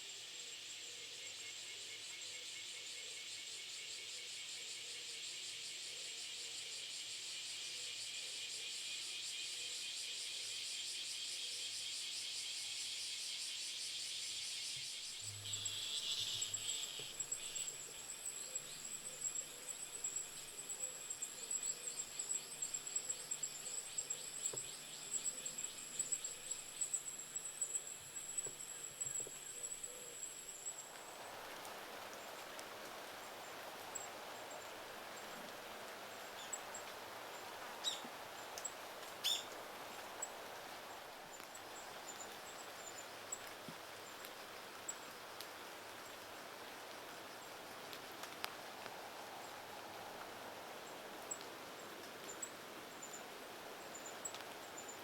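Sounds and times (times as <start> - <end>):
insects buzzing and trilling: 0.0 - 55.0.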